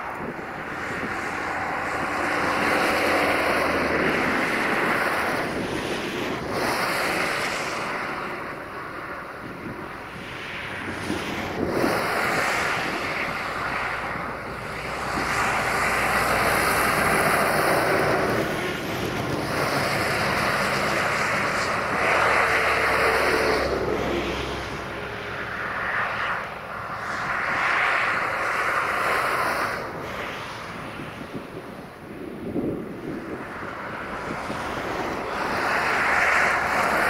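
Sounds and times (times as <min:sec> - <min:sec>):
distant jet engines: 0:00.0 - 0:37.0
wind buffeting the microphone: 0:00.0 - 0:37.0.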